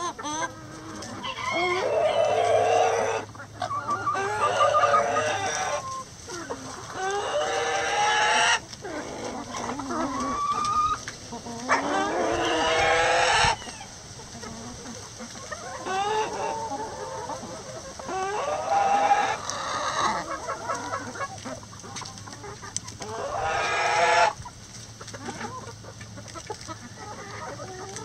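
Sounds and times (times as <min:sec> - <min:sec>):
chickens clucking: 0:00.0 - 0:28.0
loud drawn-out chicken calls: 0:00.0 - 0:28.0.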